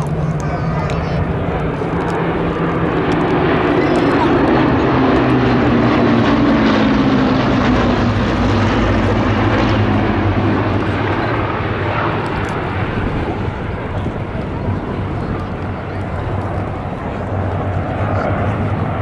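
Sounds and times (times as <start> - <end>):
propeller planes droning overhead: 0.0 - 19.0.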